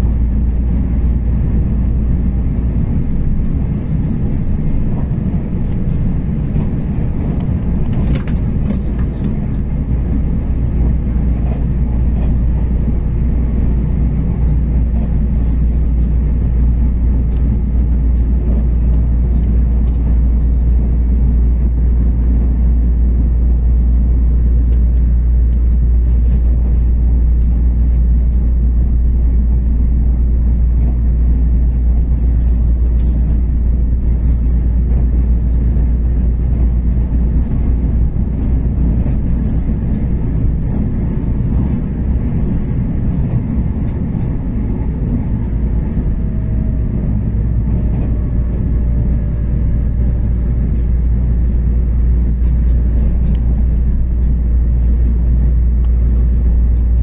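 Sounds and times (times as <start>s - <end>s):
train rumbling in motion: 0.0s - 57.0s.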